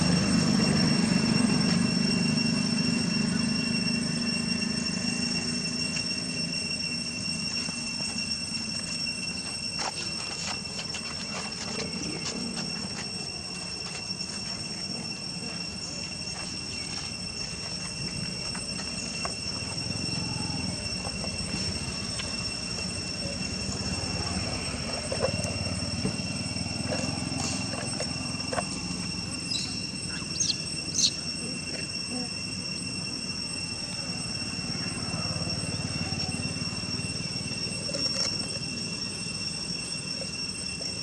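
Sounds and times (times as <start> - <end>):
high-pitched insect drone: 0.0 - 41.0.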